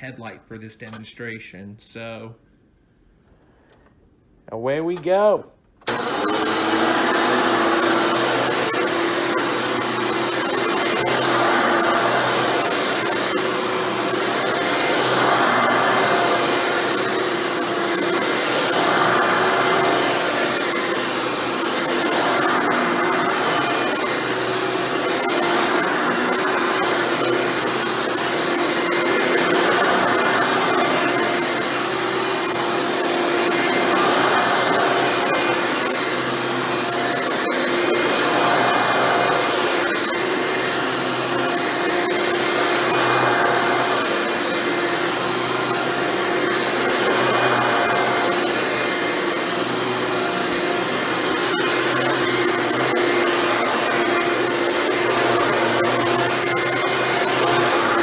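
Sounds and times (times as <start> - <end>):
vacuum cleaner on carpet: 5.8 - 58.0.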